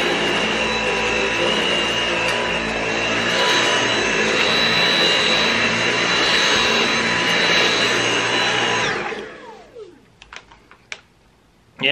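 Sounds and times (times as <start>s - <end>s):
vacuum cleaner whine: 0.0s - 10.1s.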